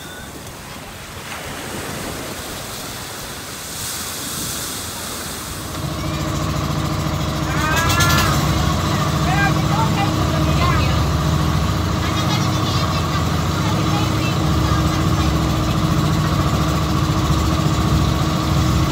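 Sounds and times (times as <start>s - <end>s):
boat engine drone: 0.0s - 18.9s
water rushing: 0.0s - 18.9s.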